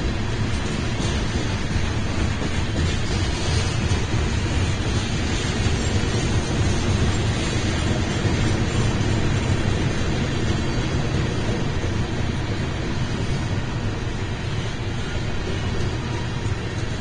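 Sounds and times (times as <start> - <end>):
freight train cars rolling: 0.0 - 17.0.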